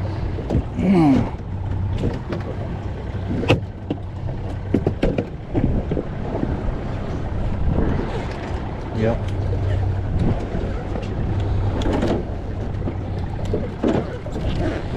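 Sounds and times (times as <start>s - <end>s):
gear knocking in boat: 0.0s - 14.9s
wind buffeting microphone: 0.0s - 14.9s.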